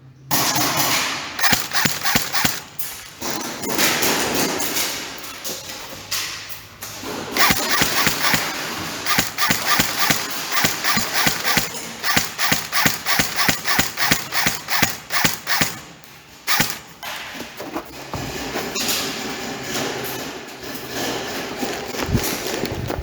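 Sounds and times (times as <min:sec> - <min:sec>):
quick footsteps: 0:01.4 - 0:23.0.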